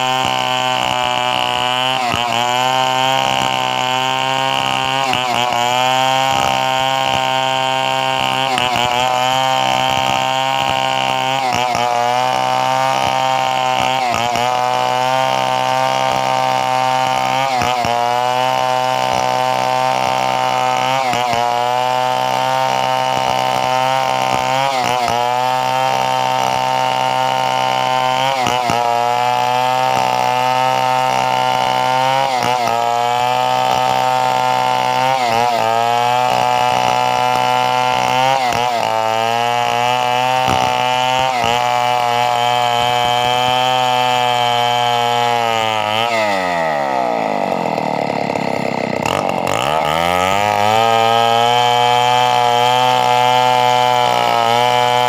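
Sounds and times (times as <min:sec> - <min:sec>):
chainsaw running at high speed: 0:00.0 - 0:55.0.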